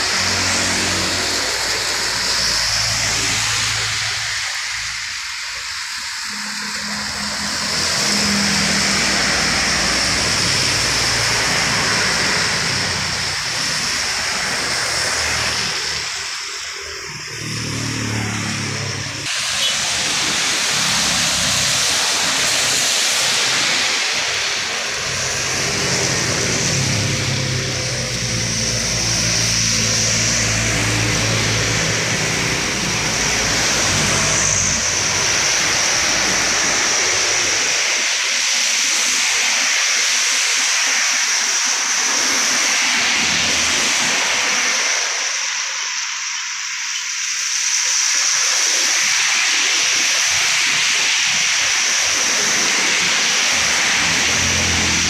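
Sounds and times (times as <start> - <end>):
heavy vehicle engine: 0.0 - 39.7, 41.4 - 55.0
engine noise: 0.0 - 55.0
tyres hissing on wet road: 0.0 - 55.0.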